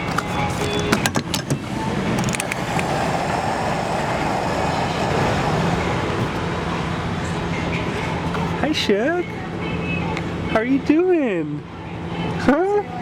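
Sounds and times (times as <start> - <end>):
car road and engine noise: 0.0 - 10.5.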